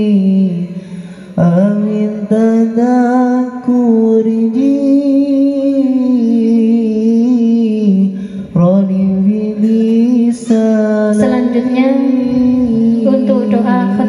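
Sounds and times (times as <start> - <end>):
solo voice chanting: 0.0 - 13.5.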